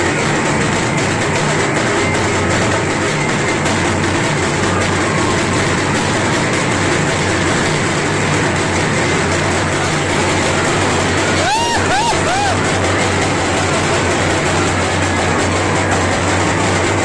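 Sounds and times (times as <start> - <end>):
crowd roaring: 0.0 - 17.0
fireworks crackling: 0.0 - 17.0.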